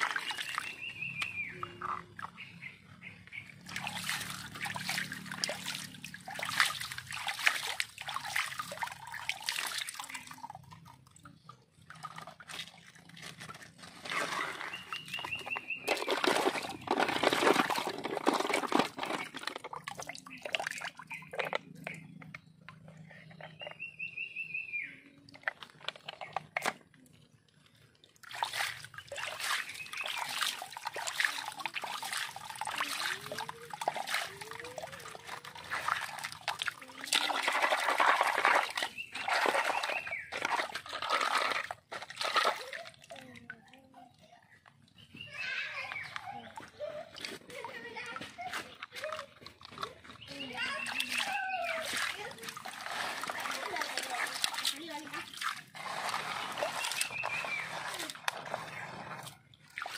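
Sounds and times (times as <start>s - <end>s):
water pouring and splashing: 0.0s - 23.9s, 25.1s - 59.9s.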